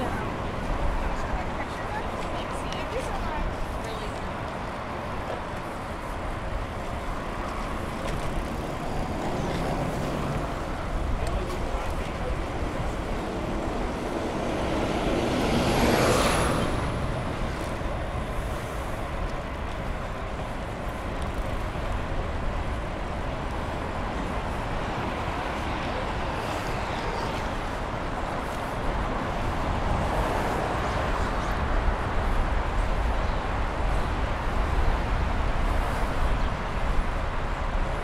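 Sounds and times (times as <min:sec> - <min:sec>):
road traffic passing: 0:00.0 - 0:38.0
vehicle whine: 0:00.0 - 0:38.0.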